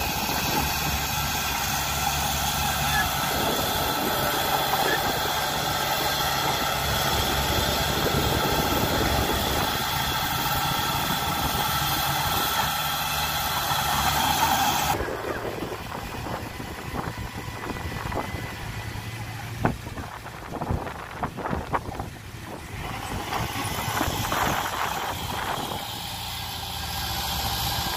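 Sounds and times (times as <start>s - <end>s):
dozer diesel engine running: 0.0s - 27.9s.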